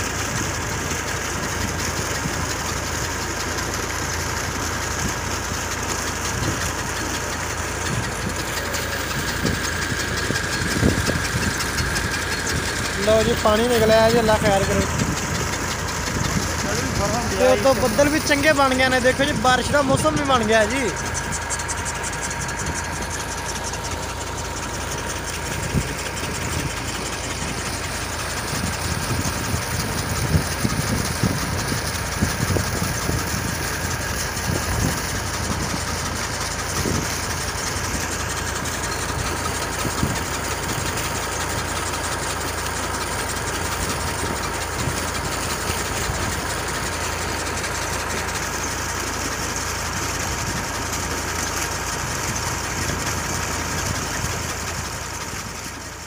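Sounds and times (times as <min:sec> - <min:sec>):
diesel engine running pump: 0:00.0 - 0:56.0
sharp engine knocks: 0:00.2 - 0:56.0.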